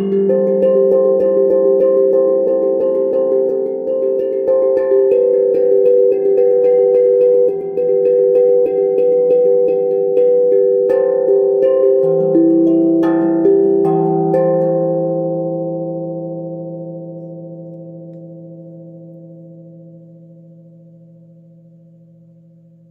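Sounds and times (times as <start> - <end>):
steel tongue drum notes: 0.0 - 22.9.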